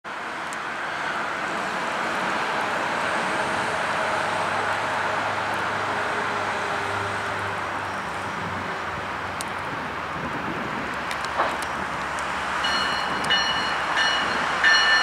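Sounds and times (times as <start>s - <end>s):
train rumbling on rails: 0.1s - 15.0s.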